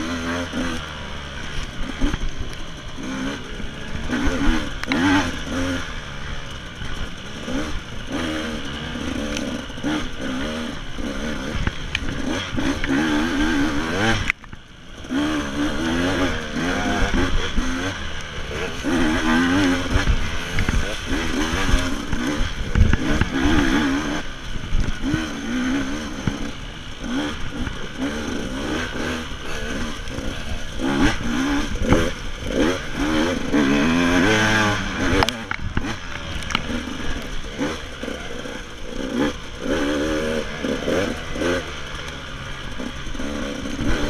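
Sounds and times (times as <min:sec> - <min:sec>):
motorcycle clattering over bumps: 0:00.0 - 0:44.0
motorcycle engine revving: 0:00.0 - 0:44.0.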